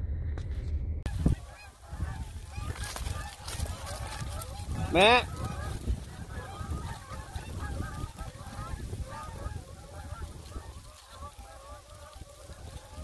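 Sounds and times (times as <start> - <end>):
low rumble on microphone: 0.0 - 13.0
geese honking: 1.1 - 13.0.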